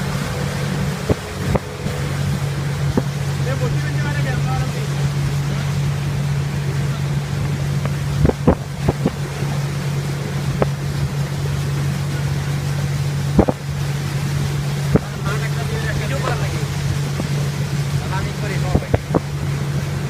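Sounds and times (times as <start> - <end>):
motorboat engine humming: 0.0 - 20.0
wind buffeting microphone: 0.0 - 20.0.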